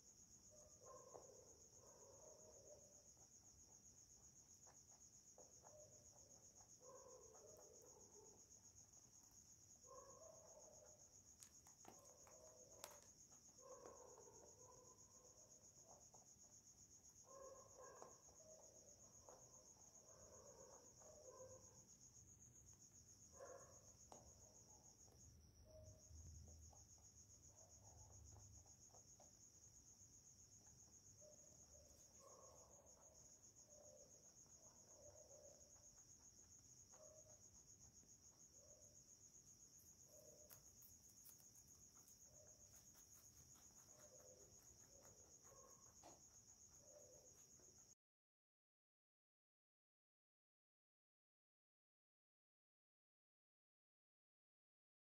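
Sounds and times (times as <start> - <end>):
faint high-pitched chirring: 0.0 - 48.0
rabbit munching greens: 1.0 - 2.1, 2.8 - 9.9, 11.0 - 21.9, 22.6 - 47.9.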